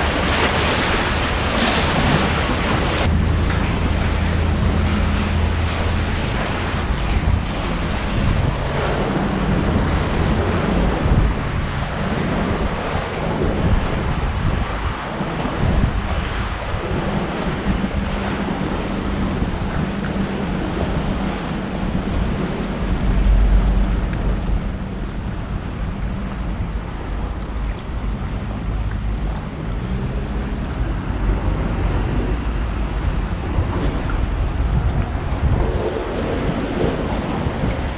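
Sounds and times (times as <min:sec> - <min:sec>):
waves washing on shore: 0:00.0 - 0:37.9
wind buffeting microphone: 0:00.0 - 0:37.9.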